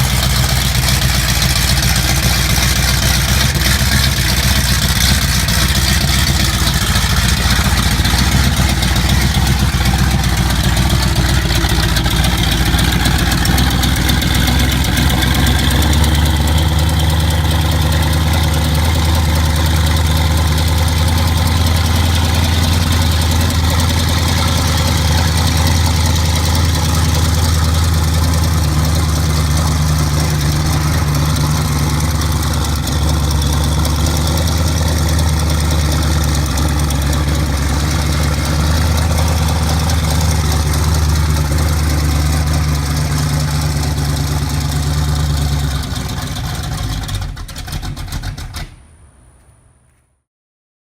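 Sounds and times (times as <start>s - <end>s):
engine idling loudly: 0.0s - 49.0s.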